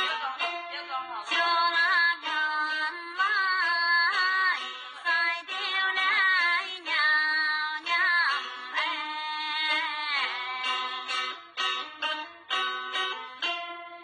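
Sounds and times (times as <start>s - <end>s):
woman singing folk melody: 0.0s - 14.0s.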